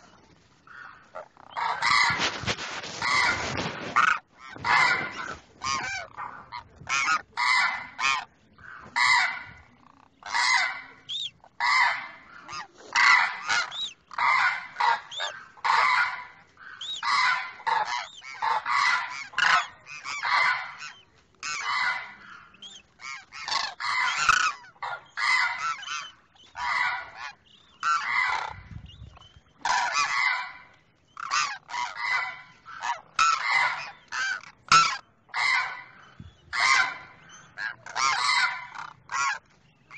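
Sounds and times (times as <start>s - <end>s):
cranes honking calls: 0.7s - 9.6s, 10.2s - 28.7s, 29.6s - 30.6s, 31.2s - 39.5s.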